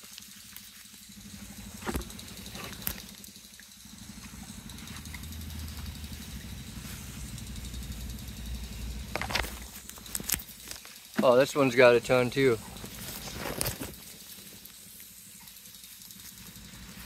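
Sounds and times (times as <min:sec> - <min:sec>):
engine humming: 0:00.2 - 0:17.0.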